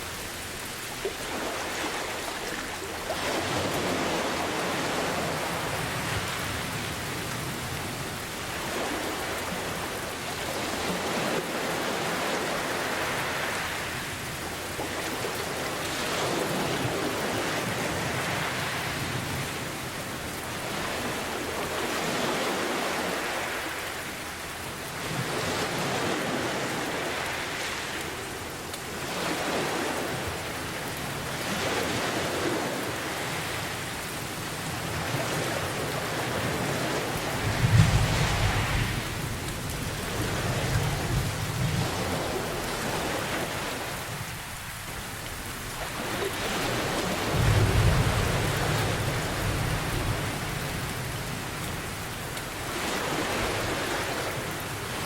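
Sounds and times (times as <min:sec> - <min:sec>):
ocean surf: 0:00.0 - 0:55.0
steady rain: 0:00.0 - 0:55.0.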